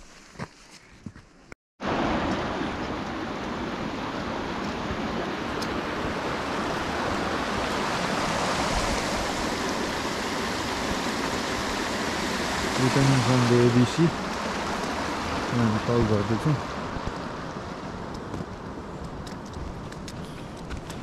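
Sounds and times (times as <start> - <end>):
stream rushing over rocks: 1.8 - 20.2.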